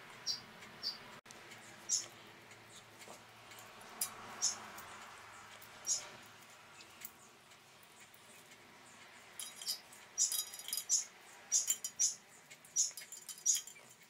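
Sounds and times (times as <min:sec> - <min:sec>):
squeaky rustles of leaves: 0:00.1 - 0:14.0.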